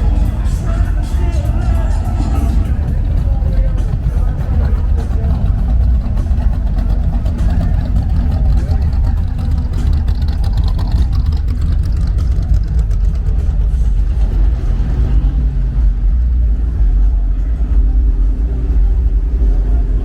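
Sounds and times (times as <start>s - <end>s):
car engine idling: 0.0s - 20.0s
street noise: 0.0s - 20.0s.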